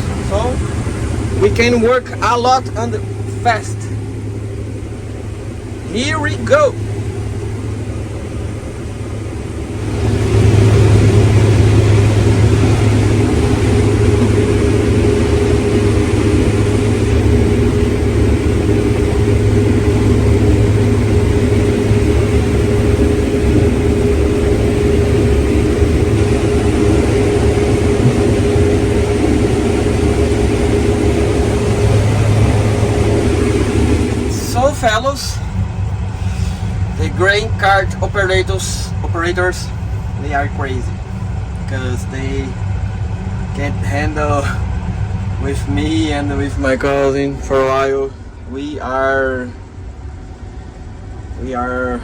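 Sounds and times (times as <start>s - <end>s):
combine harvester machinery drone: 0.0s - 52.0s.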